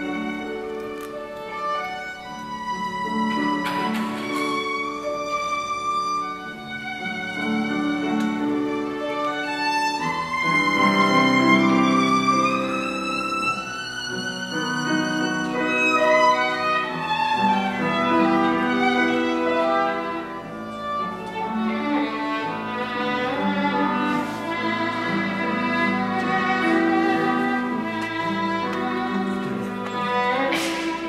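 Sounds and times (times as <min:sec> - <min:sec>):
grand piano accompaniment: 0:00.0 - 0:31.0
violin melody: 0:00.0 - 0:31.0.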